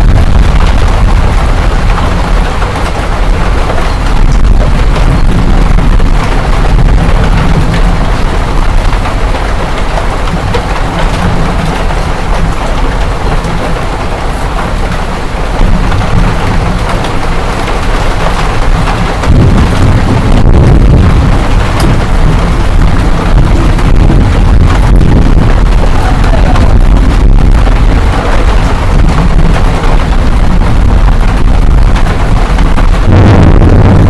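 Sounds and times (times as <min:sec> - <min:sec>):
deep rumble: 0:00.0 - 0:34.0
hail and rain pelting down: 0:00.0 - 0:34.0.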